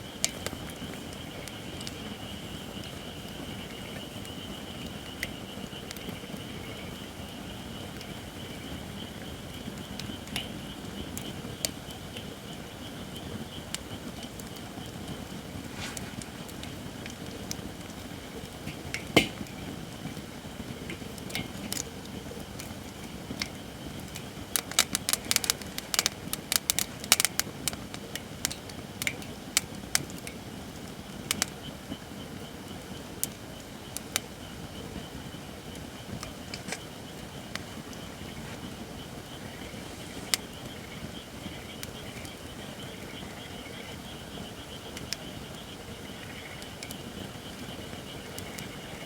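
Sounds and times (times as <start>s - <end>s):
firewood crackling and popping: 0.0s - 49.0s.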